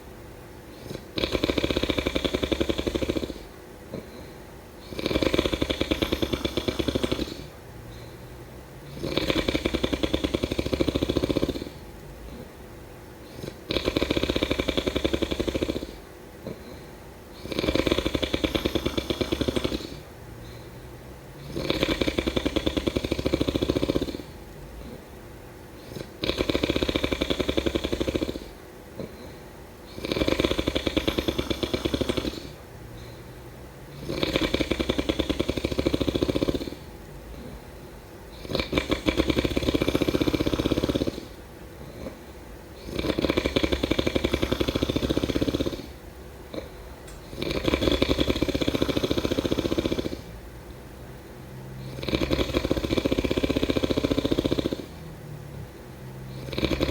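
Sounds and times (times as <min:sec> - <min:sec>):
quiet breathing: 0:00.0 - 0:56.9
person snoring: 0:00.7 - 0:08.2, 0:08.8 - 0:12.5, 0:13.2 - 0:20.7, 0:21.4 - 0:25.0, 0:25.8 - 0:33.3, 0:33.9 - 0:37.6, 0:38.3 - 0:42.2, 0:42.8 - 0:50.4, 0:51.7 - 0:56.9.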